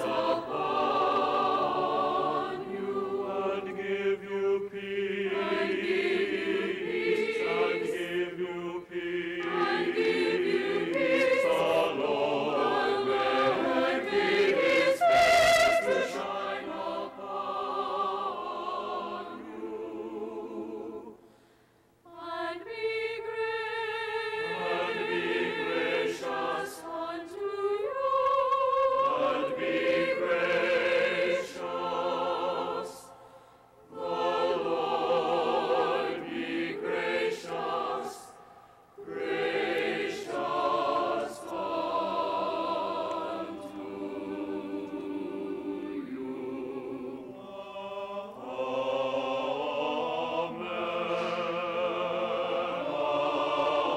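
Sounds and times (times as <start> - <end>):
choir singing sustained chords: 0.0 - 53.9.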